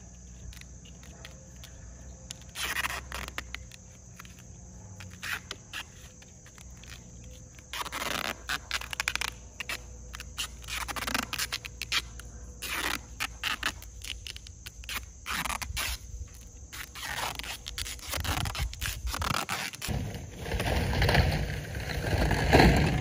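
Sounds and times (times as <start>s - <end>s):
duct tape ripping off roll: 2.3s - 23.0s.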